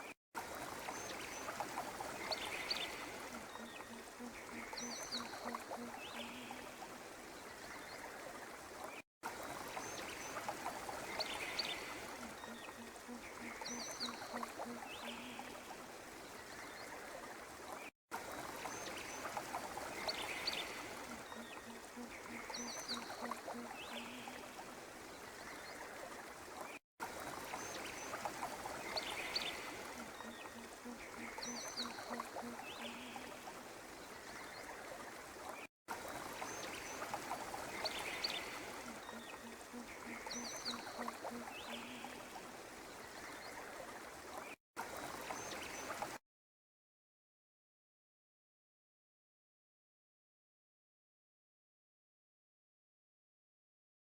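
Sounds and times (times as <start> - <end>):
running water: 0.0 - 46.2.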